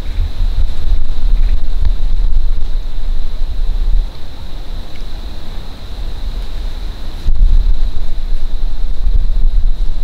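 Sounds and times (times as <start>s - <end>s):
faint high-pitched whine: 0.0s - 10.0s
wind buffeting microphone: 0.0s - 10.0s.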